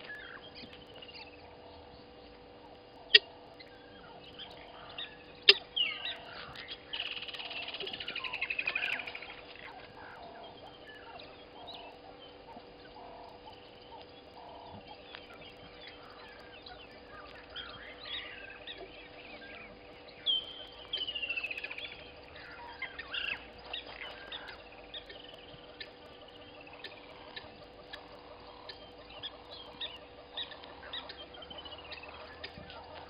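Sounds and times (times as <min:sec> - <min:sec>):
birds chirping and whistling: 0:00.0 - 0:33.0
faint steady hum: 0:00.0 - 0:33.0.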